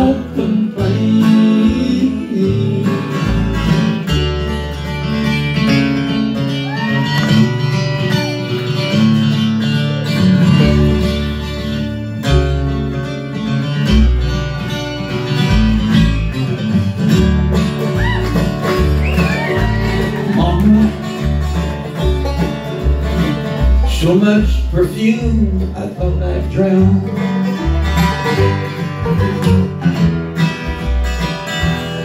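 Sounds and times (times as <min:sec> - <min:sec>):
acoustic guitar: 0:00.0 - 0:32.0
banjo: 0:00.0 - 0:32.0
fiddle: 0:00.0 - 0:32.0
upright bass: 0:00.0 - 0:32.0.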